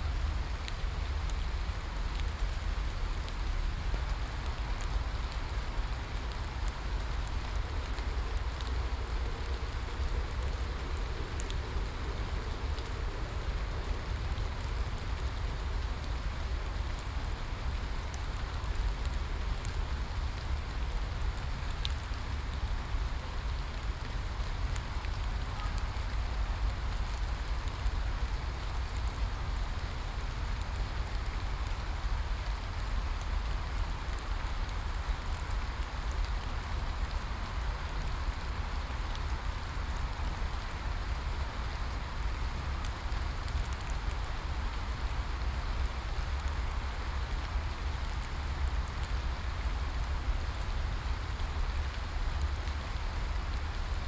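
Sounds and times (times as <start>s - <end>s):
steady rain falling: 0.0s - 54.0s
raindrop ticks: 0.1s - 54.0s.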